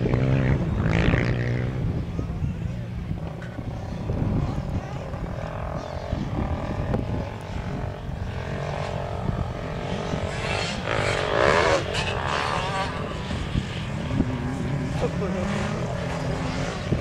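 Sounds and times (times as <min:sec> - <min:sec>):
distant motorbike engine revving: 0:00.0 - 0:17.0.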